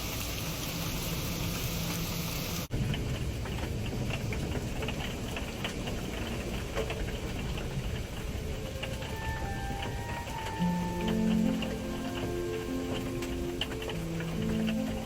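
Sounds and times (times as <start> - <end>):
rain drops ticking on camper: 0.0 - 15.0
steady low rumble: 0.3 - 15.0.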